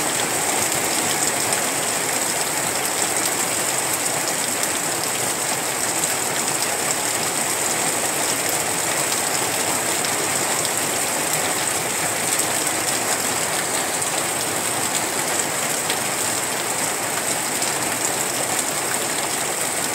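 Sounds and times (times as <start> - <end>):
heavy rain falling: 0.0 - 19.9.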